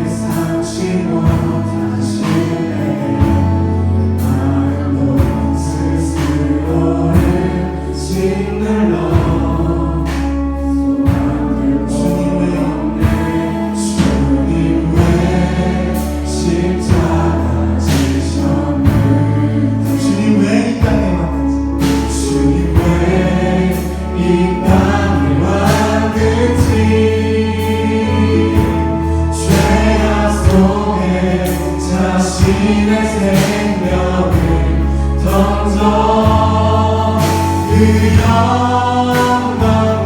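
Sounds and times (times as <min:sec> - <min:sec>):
bass guitar: 0:00.0 - 0:40.0
drums: 0:00.0 - 0:40.0
group of voices singing: 0:00.0 - 0:40.0.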